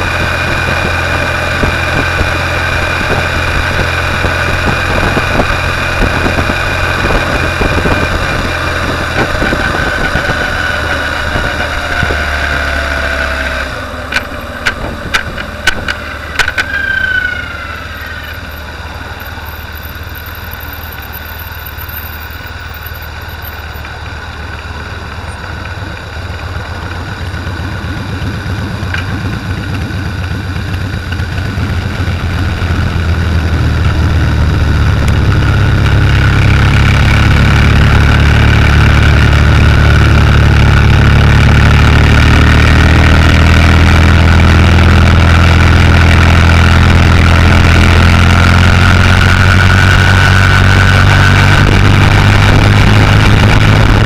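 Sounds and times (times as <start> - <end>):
wind noise: 0.0 - 17.4, 26.9 - 54.0
motorcycle engine running: 0.0 - 54.0.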